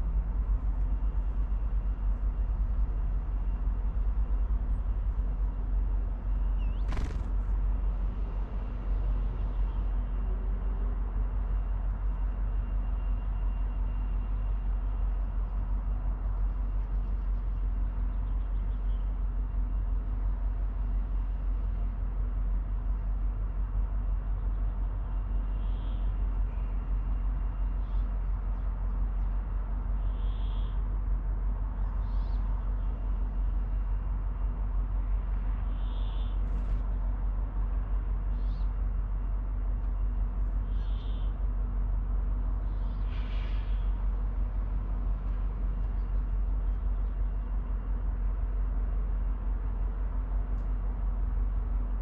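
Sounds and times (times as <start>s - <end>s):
low outdoor rumble: 0.0s - 52.0s.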